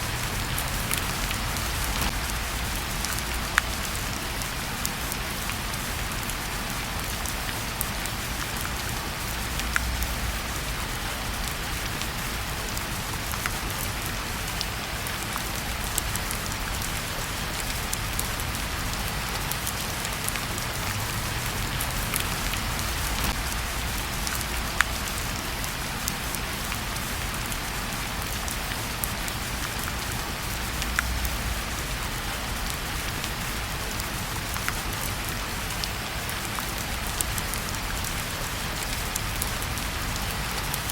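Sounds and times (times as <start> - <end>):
raindrops ticking: 0.0 - 40.9
steady rain hiss: 0.0 - 40.9.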